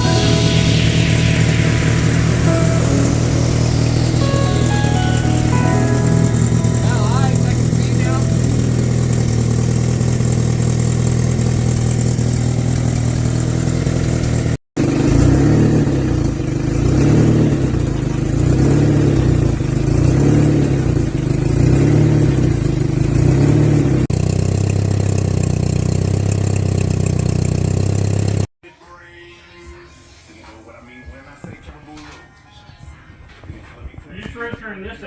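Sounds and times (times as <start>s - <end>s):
car engine revving and idling: 0.0s - 28.5s.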